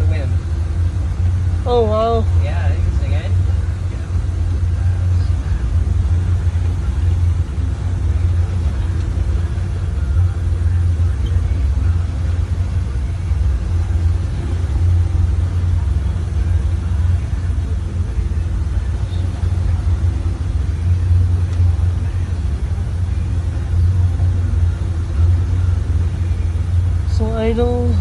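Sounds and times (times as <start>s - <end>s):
motorboat engine low rumble: 0.0s - 28.0s.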